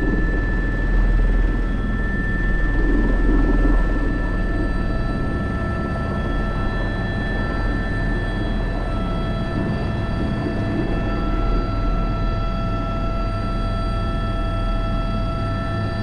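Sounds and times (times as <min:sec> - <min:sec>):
helicopter rotor beat: 0:00.0 - 0:16.0
turbine engine whine: 0:00.0 - 0:16.0.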